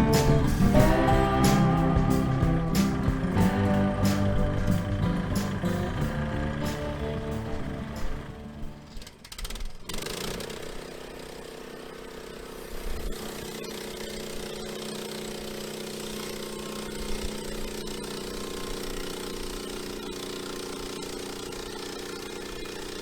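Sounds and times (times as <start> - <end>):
sawmill gas engine running: 0.0 - 23.0.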